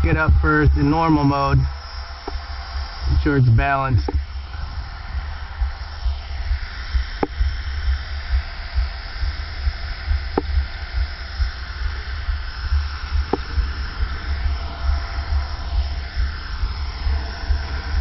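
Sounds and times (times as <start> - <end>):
rc helicopter motor whine: 0.0 - 18.0.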